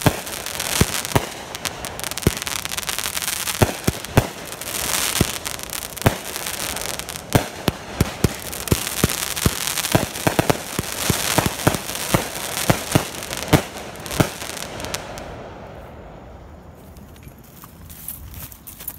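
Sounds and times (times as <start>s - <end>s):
firework hiss: 0.0s - 16.1s
firework bangs: 0.0s - 16.5s.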